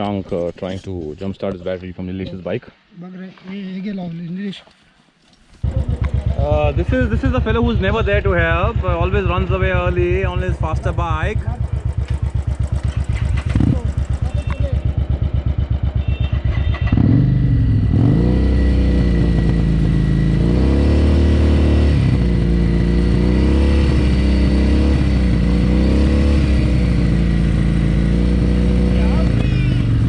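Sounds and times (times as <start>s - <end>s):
motorcycle engine starting and revving: 5.6s - 30.0s.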